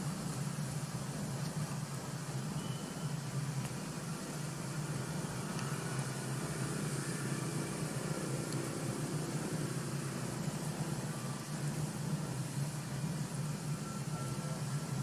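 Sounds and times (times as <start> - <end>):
even hiss: 0.0 - 15.0
steady low hum: 0.0 - 15.0.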